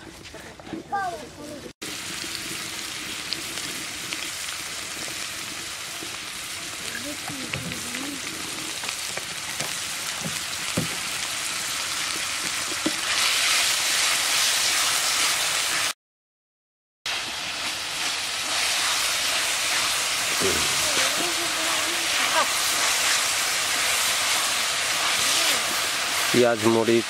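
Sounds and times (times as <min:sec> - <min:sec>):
onions sizzling in hot oil: 0:01.8 - 0:16.0, 0:17.1 - 0:27.0.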